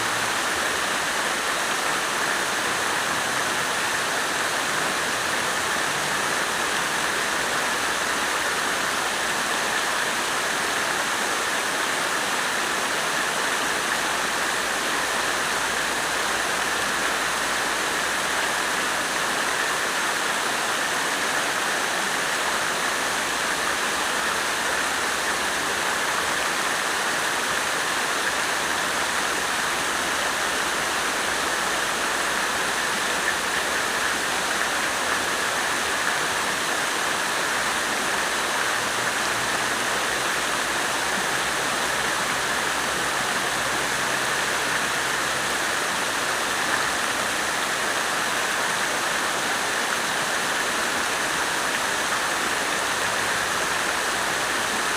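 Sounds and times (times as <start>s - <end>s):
water fountain splashing: 0.0s - 54.9s.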